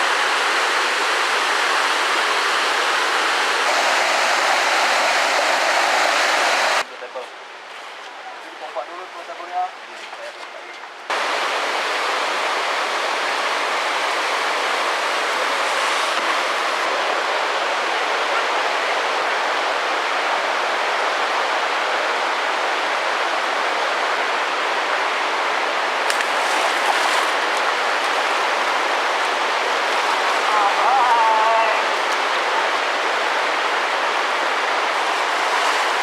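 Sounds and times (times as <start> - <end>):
river water rushing: 0.0 - 6.8, 11.1 - 36.0.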